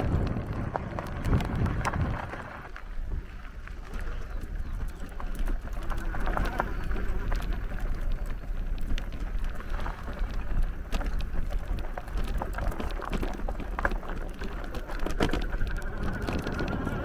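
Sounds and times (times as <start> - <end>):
bike clicks and rattles: 0.0 - 17.0
bike tyres crunching on sandy dirt: 0.0 - 17.0
wind rumbling on microphone: 0.0 - 17.0.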